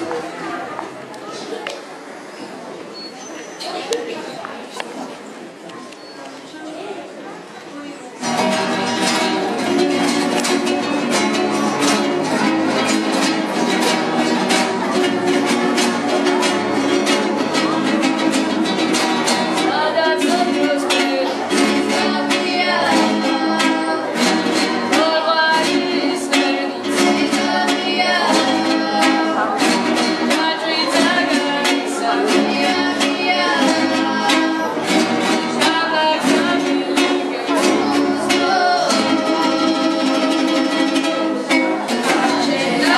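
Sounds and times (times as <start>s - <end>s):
acoustic guitars strumming: 8.2s - 42.9s.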